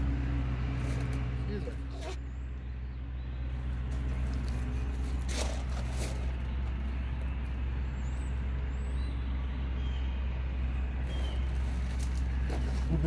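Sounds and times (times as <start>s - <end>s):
heavy machine engine droning: 0.0s - 13.0s.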